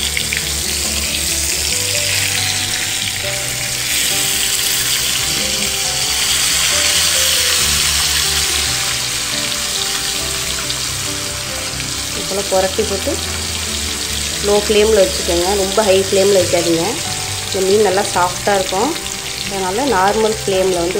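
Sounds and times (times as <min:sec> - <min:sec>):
fish sizzling in oil: 0:00.0 - 0:20.9.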